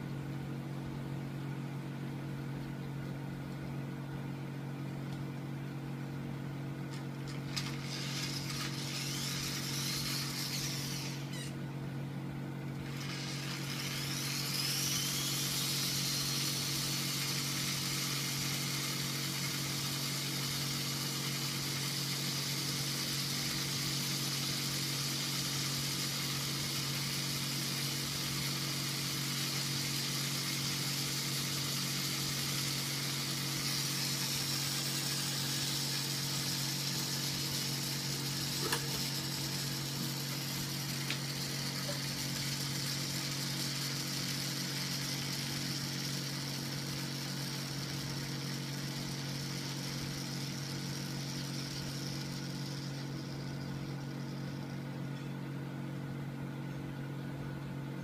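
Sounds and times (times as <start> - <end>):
model fan whirring: 0.0 - 55.1
fan motor humming: 0.0 - 56.5.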